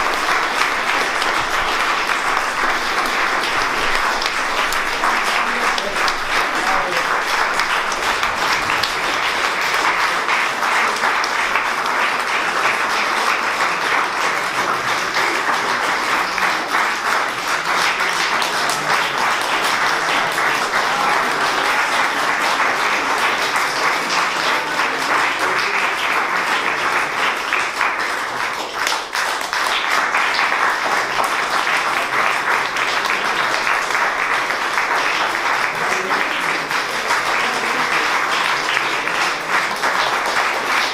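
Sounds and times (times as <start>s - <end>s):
audience applause: 0.0s - 40.9s.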